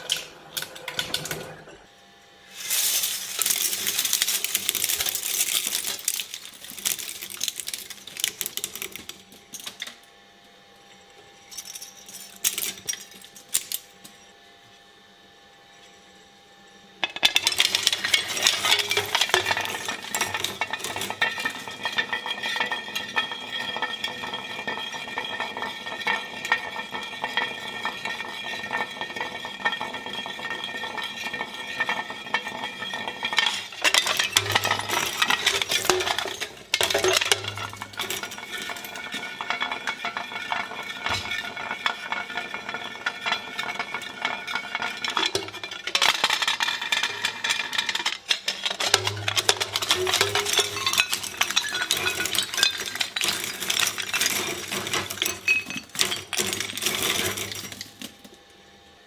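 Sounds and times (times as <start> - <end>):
crackling and clinking: 0.0 - 1.9, 2.5 - 10.0, 17.0 - 58.4.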